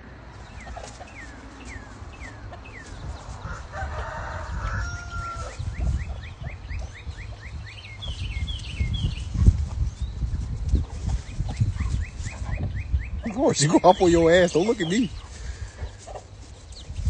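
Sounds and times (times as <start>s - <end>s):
chickens clucking and squawking: 0.2s - 17.0s.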